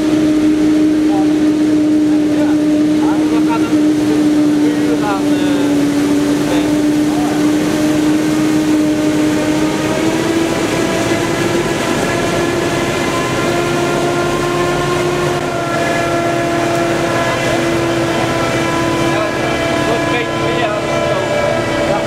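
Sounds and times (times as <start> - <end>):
forage harvester whine and rumble: 0.0 - 22.0.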